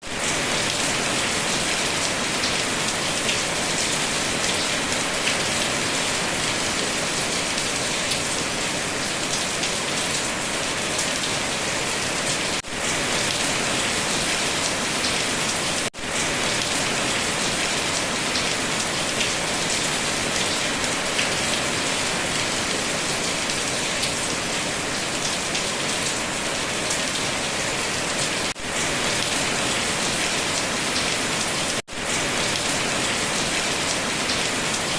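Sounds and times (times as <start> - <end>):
dense rain pattering: 0.0 - 34.9.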